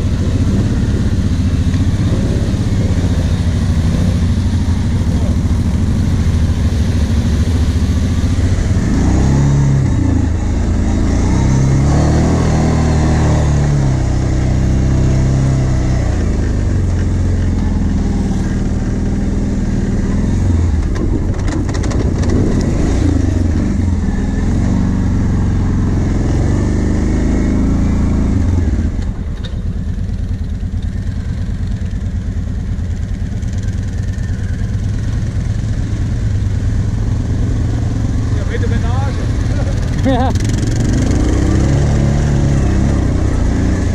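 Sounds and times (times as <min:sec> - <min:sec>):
quad engine revving and idling: 0:00.0 - 0:43.9.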